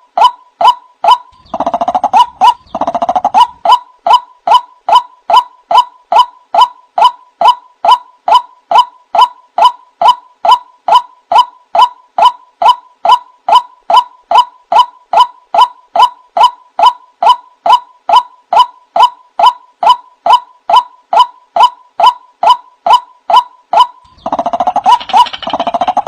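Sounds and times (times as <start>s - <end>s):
waterhen call: 0.0s - 26.0s.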